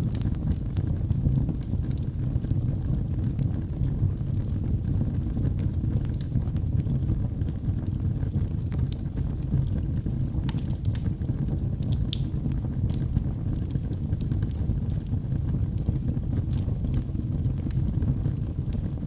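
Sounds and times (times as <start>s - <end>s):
fire pops and snaps: 0.0s - 19.0s
low rumble of burning logs: 0.0s - 19.0s.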